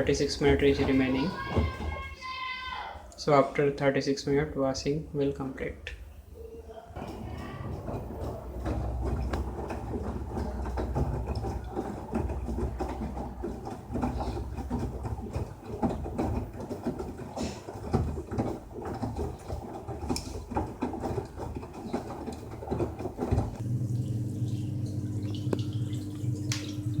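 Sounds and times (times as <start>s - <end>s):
washing machine drum tumbling: 0.0s - 2.6s, 6.9s - 27.0s.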